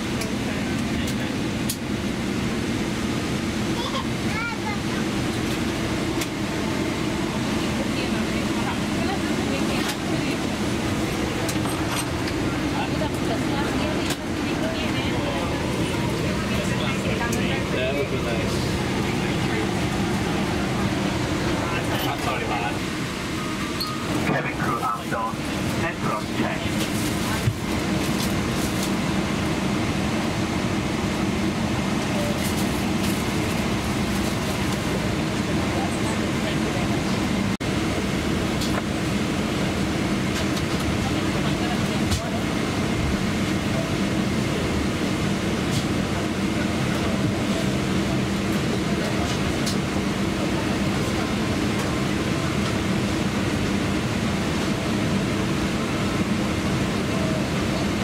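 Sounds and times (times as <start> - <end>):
airliner cabin hum: 0.0 - 58.0.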